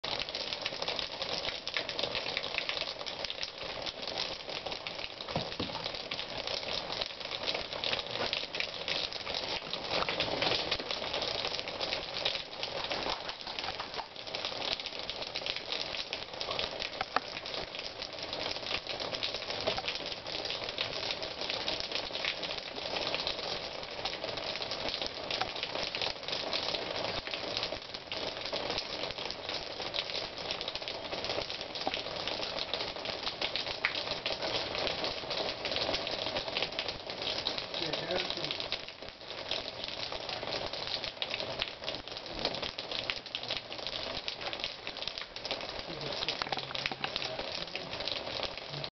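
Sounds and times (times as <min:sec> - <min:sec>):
rain pattering on wooden deck: 0:00.0 - 0:48.9.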